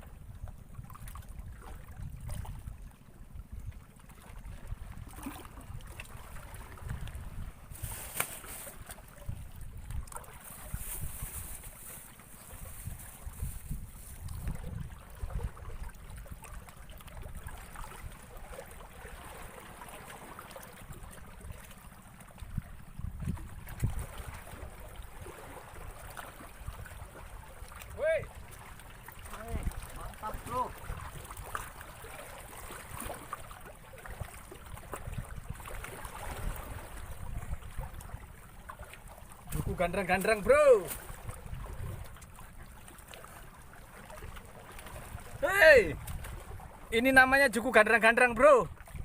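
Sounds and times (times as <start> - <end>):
wind rumbling on microphone: 0.0 - 18.7, 20.8 - 33.4, 34.0 - 38.6, 39.4 - 42.6, 44.3 - 47.0, 48.7 - 49.0
water lapping and trickling: 0.0 - 49.0.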